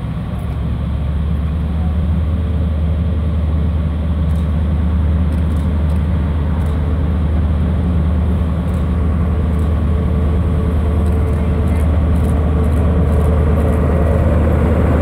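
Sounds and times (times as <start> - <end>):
diesel locomotive droning: 0.0 - 15.0.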